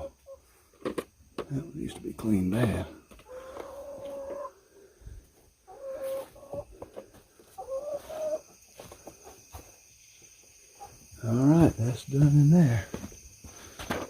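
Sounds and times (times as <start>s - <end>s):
chickens calling: 0.0s - 11.8s.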